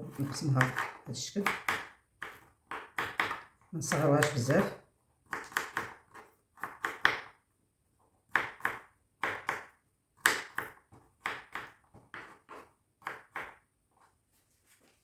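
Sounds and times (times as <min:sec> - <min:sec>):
knife chopping onion: 0:00.0 - 0:07.4, 0:08.3 - 0:13.6.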